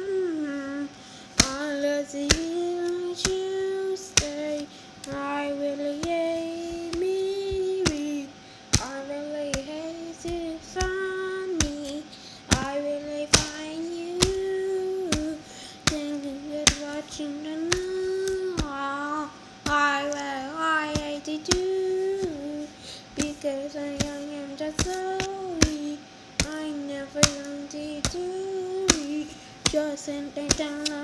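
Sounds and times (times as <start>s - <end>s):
high voice singing wordless melody: 0.0s - 31.0s
sharp clicks keeping time: 1.4s - 18.9s, 19.7s - 31.0s.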